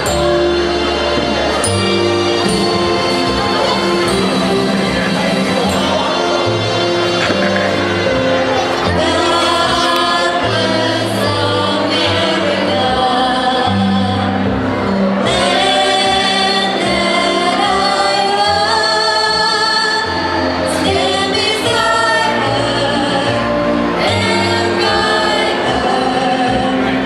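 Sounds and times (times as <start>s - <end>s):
instrumental accompaniment with bass: 0.0s - 27.0s.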